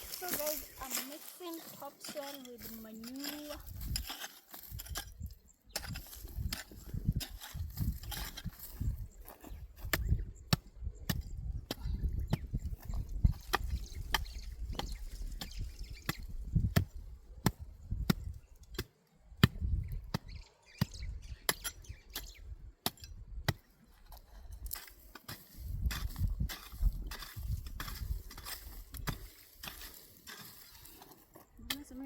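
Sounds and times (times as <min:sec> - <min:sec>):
hand tool chopping soil: 0:00.0 - 0:32.0.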